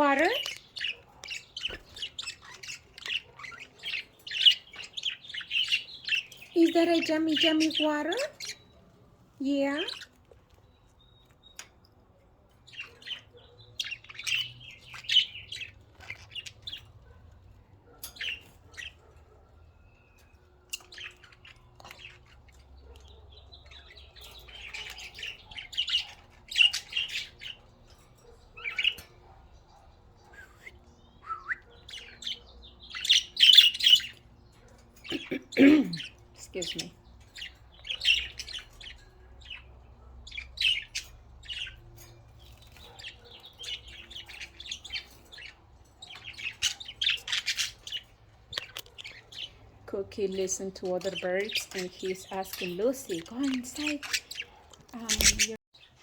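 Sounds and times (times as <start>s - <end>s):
budgerigars chirping and squawking: 0.0s - 56.0s.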